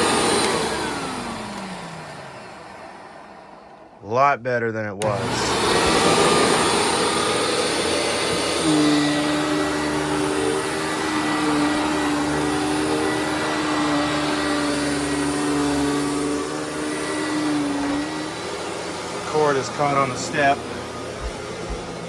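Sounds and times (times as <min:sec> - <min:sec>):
vacuum cleaner running: 0:00.0 - 0:04.0, 0:05.0 - 0:22.0.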